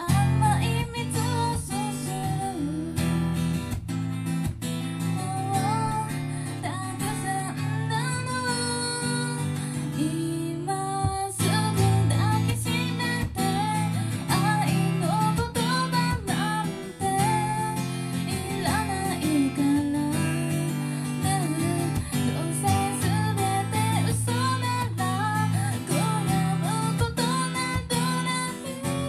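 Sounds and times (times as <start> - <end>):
woman singing into microphone: 0.0 - 3.4, 5.1 - 29.0
strummed acoustic guitar: 0.0 - 29.0.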